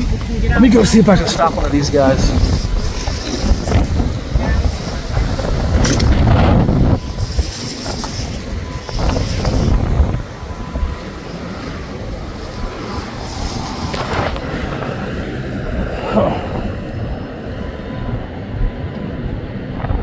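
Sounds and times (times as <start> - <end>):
road traffic rumble: 0.0 - 20.0
wind buffeting microphone: 0.0 - 20.0.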